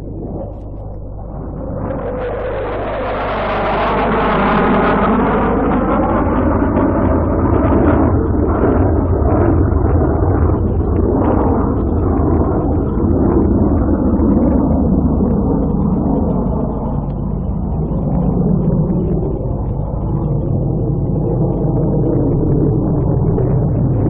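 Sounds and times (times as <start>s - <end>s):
jet aircraft flying over: 0.0s - 24.0s.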